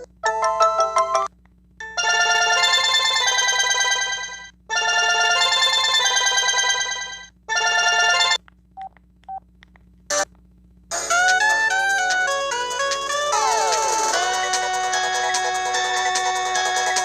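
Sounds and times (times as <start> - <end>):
electronic ringtone melodies: 0.0 - 8.4, 10.9 - 17.0.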